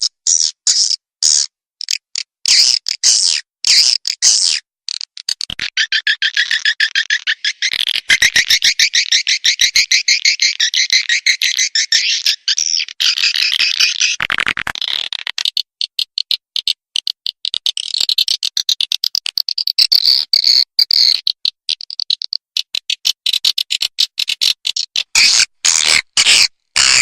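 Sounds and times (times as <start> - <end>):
swiftlet chattering clicks and chirps: 0.0 - 27.0.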